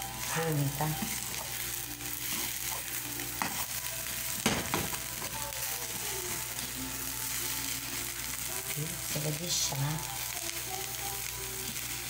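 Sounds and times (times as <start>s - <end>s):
omelette sizzling in frying pan: 0.0s - 12.0s.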